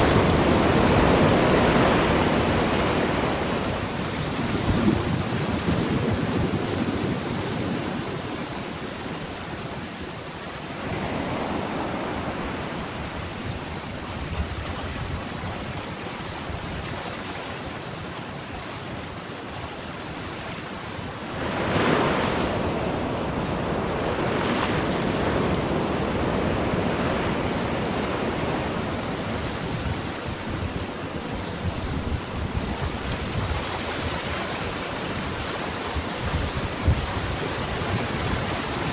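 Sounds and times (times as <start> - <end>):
heavy wave crash: 0.0 - 8.8, 10.4 - 16.8, 21.0 - 38.9
surf breaking against cliffs: 0.0 - 9.3, 10.4 - 17.2, 20.7 - 38.9.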